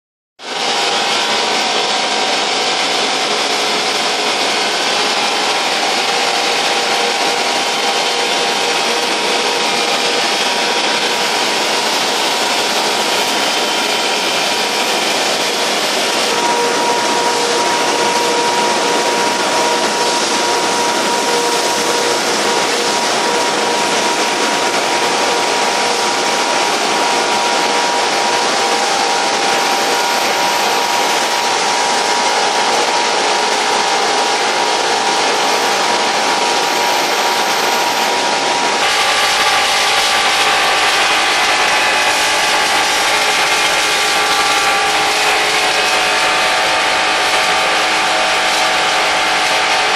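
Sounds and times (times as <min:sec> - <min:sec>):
wood chipper running: 0:00.4 - 0:49.9.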